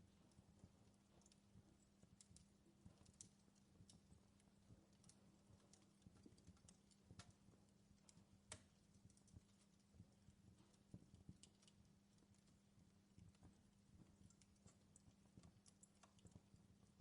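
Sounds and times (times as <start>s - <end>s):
faint steady hum: 0.0s - 17.0s
wood fire crackling: 0.0s - 17.0s.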